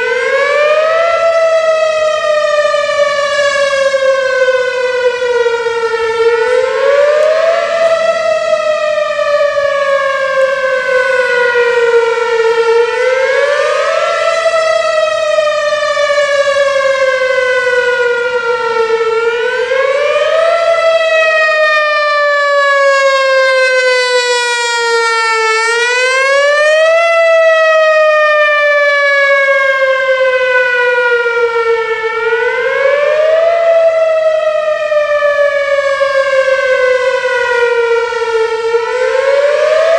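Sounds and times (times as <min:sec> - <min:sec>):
outdoor warning siren wailing: 0:00.0 - 0:39.9.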